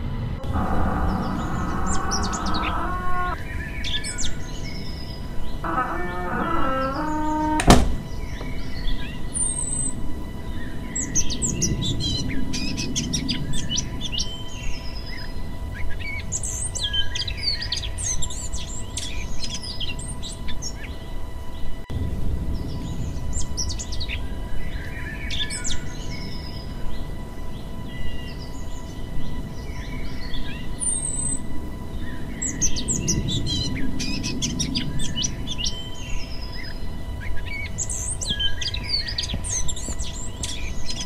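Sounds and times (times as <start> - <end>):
birds chirping and trilling: 0.0 - 41.0
low outdoor rumble: 0.0 - 41.0.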